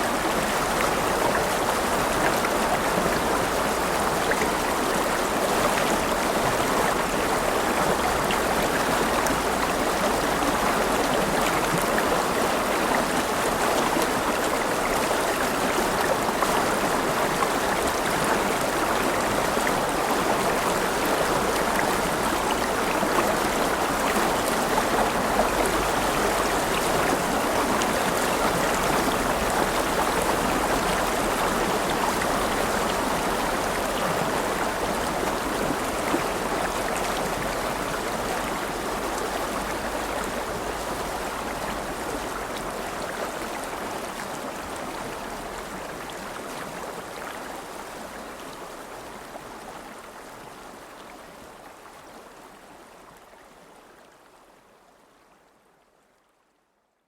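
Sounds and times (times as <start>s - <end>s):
river water flowing: 0.0s - 56.4s.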